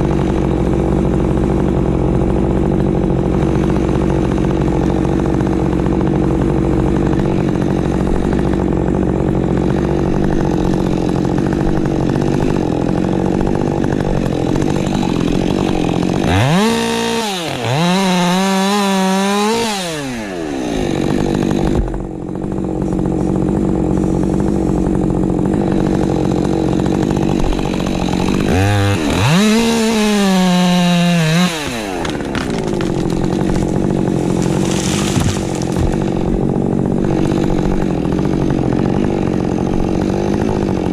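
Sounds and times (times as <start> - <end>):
chainsaw engine drone: 0.0 - 40.9
chainsaw revving: 0.0 - 40.9.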